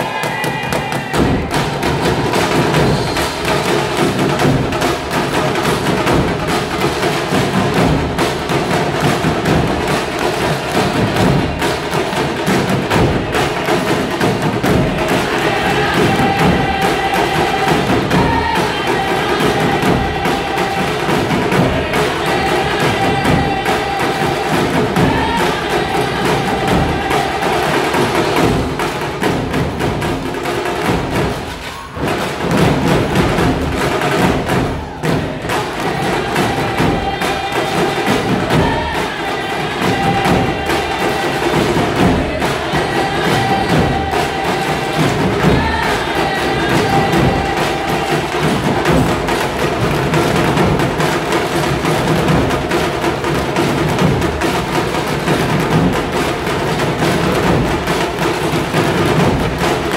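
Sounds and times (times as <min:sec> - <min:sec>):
drum ensemble playing fast rhythm: 0:00.0 - 0:59.9.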